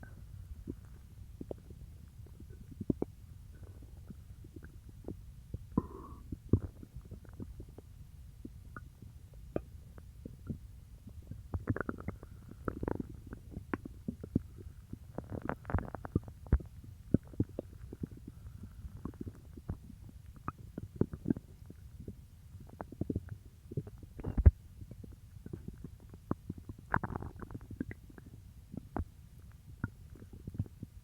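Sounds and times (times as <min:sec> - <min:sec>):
stomach gurgling: 0:00.0 - 0:31.0.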